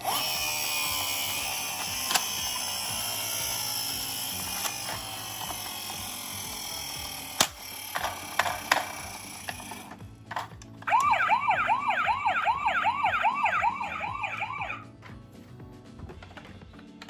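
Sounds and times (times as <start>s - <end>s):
toy car whirring: 0.0s - 14.8s.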